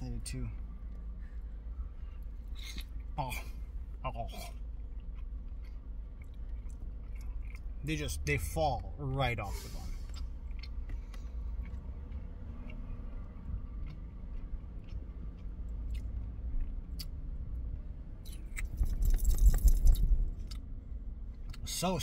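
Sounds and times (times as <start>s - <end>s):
low steady rumble: 0.0s - 22.0s
man chewing: 0.6s - 8.6s, 9.5s - 20.7s.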